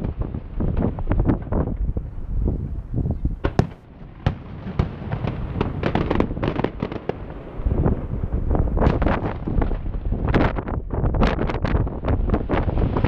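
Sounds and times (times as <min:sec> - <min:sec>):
distant fireworks bangs and crackles: 0:00.0 - 0:02.6, 0:03.4 - 0:13.0.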